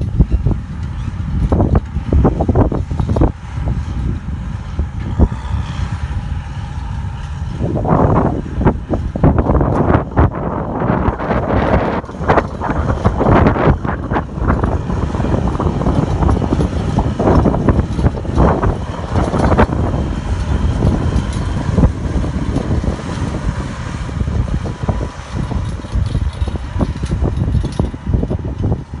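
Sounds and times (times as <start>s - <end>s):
gusty wind on microphone: 0.0s - 29.0s
tractor engine running: 0.0s - 29.0s.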